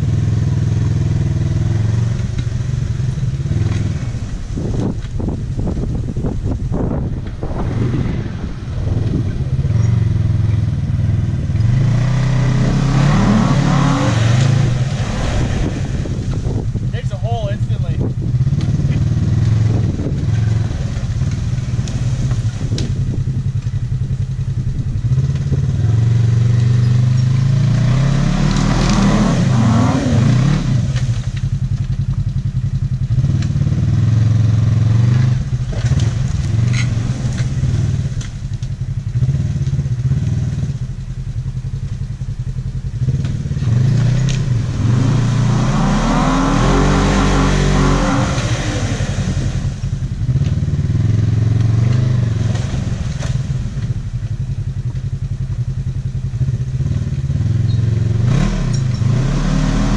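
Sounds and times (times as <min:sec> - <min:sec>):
engine revving under load: 0:00.0 - 0:40.8, 0:43.0 - 0:54.6, 0:56.3 - 0:59.9.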